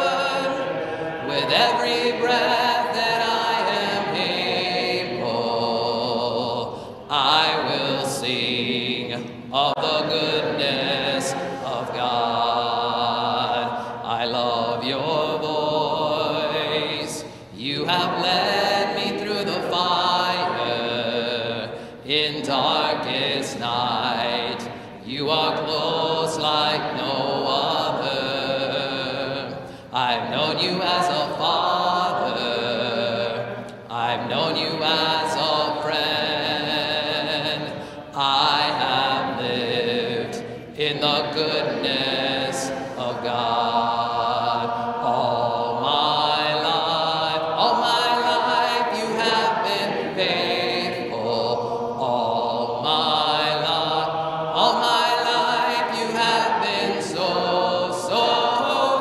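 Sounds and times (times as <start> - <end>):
congregation singing a hymn: 0.0 - 59.0.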